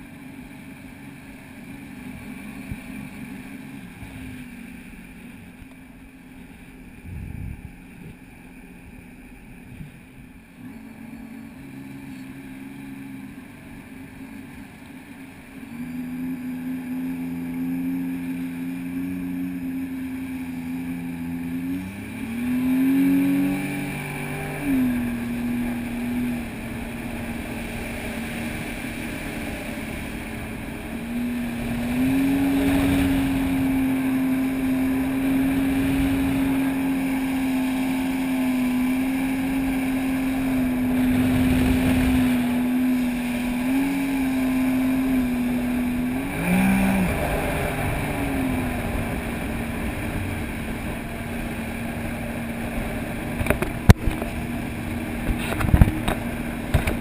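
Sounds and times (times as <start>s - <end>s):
water rushing past hull: 0.0s - 57.0s
watercraft engine running: 0.0s - 57.0s.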